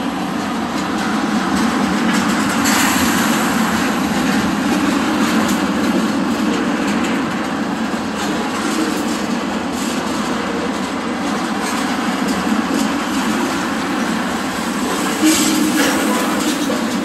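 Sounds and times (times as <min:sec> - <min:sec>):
steel wheels rumbling on rails: 0:00.0 - 0:17.0
train wheel clacks: 0:00.0 - 0:17.0.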